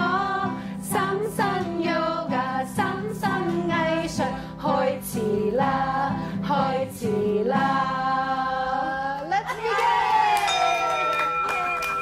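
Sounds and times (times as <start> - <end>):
women singing a children's song: 0.0 - 10.4.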